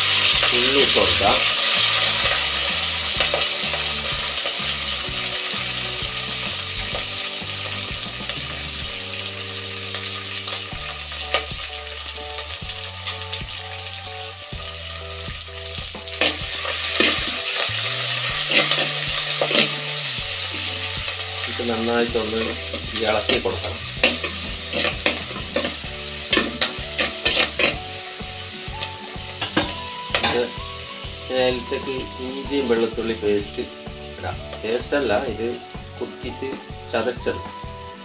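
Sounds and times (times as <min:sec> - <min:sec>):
onions sizzling in hot oil: 0:00.0 - 0:38.0.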